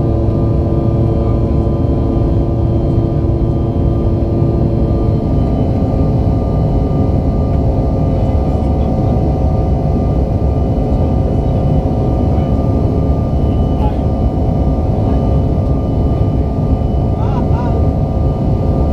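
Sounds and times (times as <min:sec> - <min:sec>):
jet engine cabin drone: 0:00.0 - 0:18.9.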